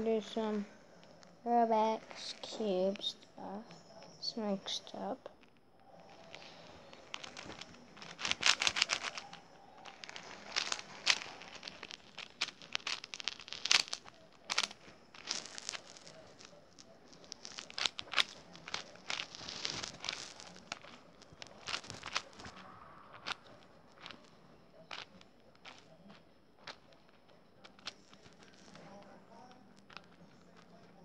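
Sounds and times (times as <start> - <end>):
puzzle cube clicks and clacks: 0.0 - 3.6, 4.4 - 31.0.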